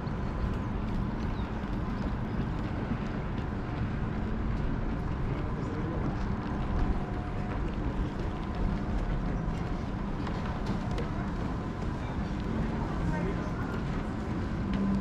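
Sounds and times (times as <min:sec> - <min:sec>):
city ambience low rumble: 0:00.0 - 0:15.0.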